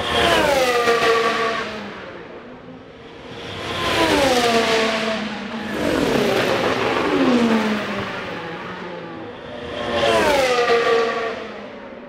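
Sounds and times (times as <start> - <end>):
racing cars passing at speed: 0.0 - 12.0.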